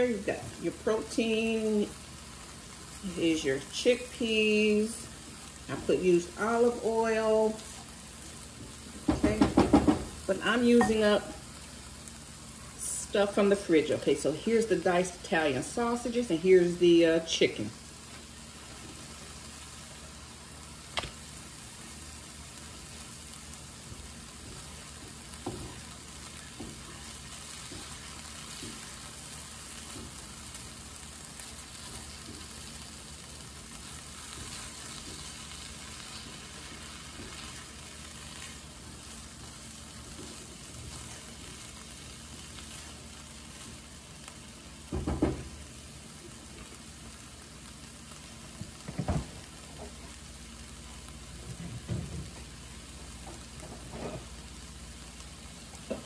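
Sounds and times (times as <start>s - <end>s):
meat sizzling in a skillet: 0.0s - 56.0s.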